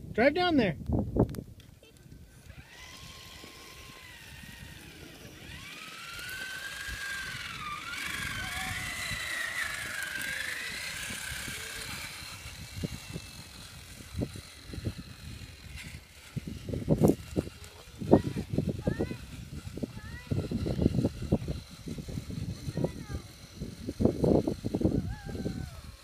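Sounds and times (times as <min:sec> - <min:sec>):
rc truck motor whine: 0:01.9 - 0:26.0.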